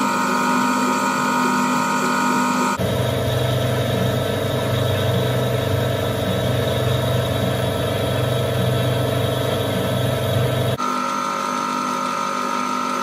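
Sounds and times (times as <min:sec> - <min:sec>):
metal lathe humming: 0:00.0 - 0:13.0.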